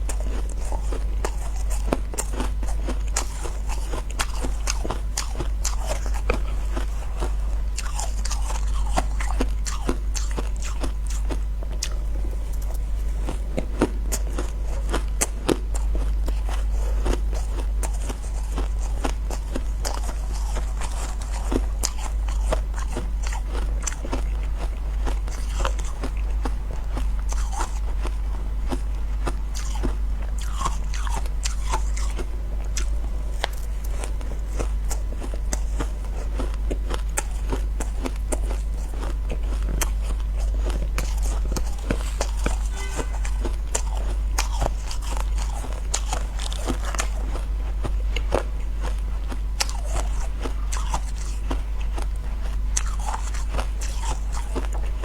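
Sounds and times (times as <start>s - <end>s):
chewing and crunching ice: 0.0s - 55.0s
steady low hum: 0.0s - 55.0s.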